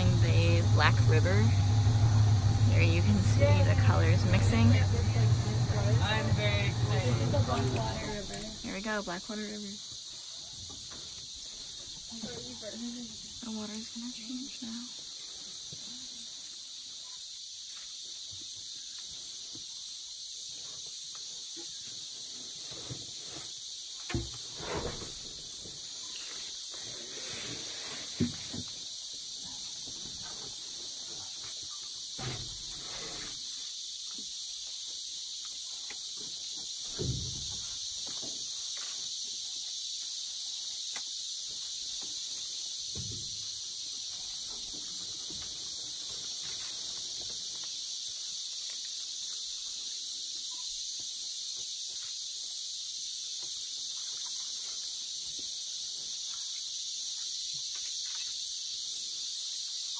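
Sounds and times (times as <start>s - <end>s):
insect chorus drone: 0.0s - 59.9s.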